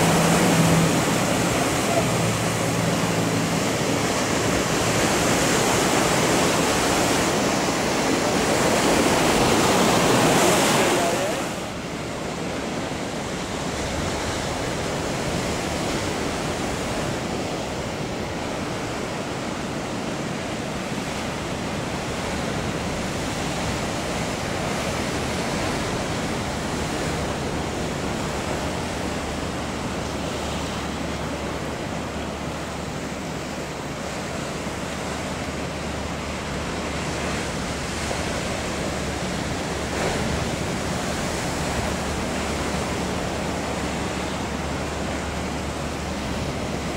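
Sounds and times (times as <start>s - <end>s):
surf and breaking waves: 0.0s - 46.9s.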